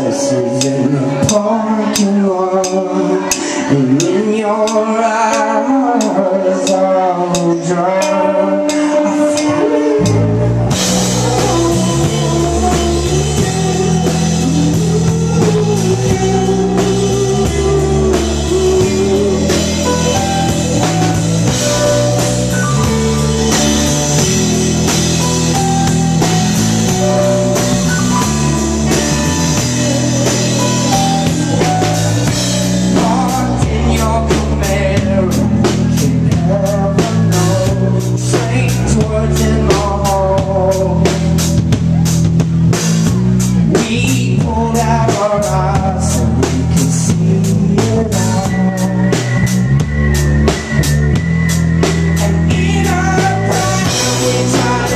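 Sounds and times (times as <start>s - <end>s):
drums and cymbals: 0.0s - 54.9s
live rock band playing: 0.0s - 54.9s.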